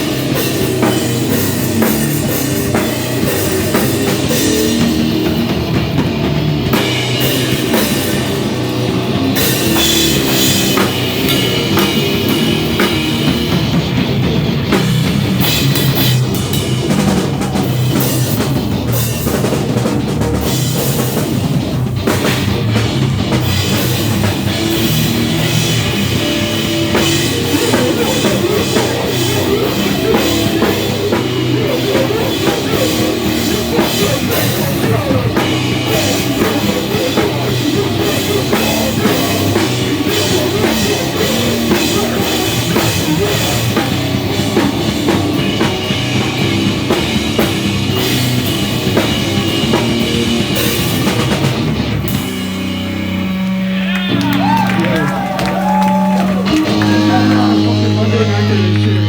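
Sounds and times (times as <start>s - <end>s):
live rock band playing: 0.0s - 59.0s
pounding drum kit: 0.0s - 59.0s.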